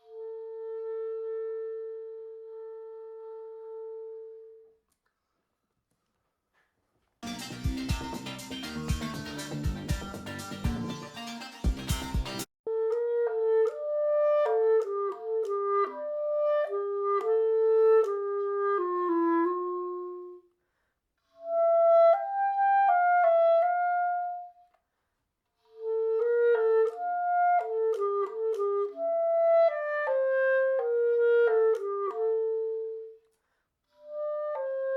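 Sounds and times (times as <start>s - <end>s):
solo woodwind melody: 0.0s - 4.8s, 7.2s - 20.5s, 21.3s - 24.6s, 25.6s - 33.3s, 33.9s - 34.9s.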